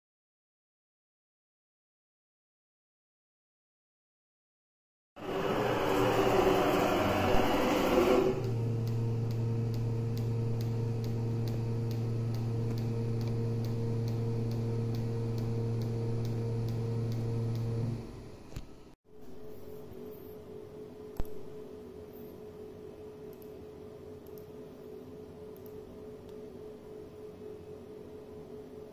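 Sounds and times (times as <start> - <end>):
machine hum: 5.2 - 28.9.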